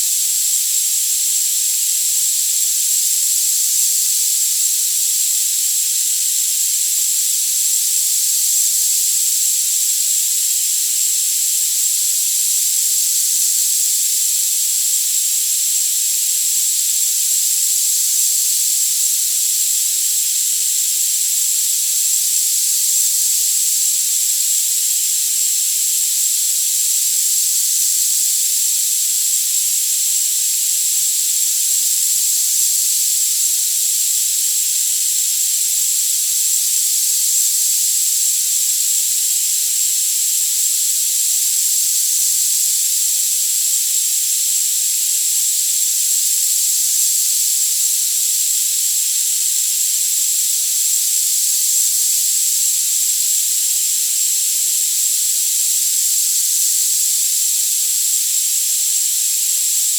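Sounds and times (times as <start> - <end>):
steady high-pitched hiss: 0.0 - 59.9.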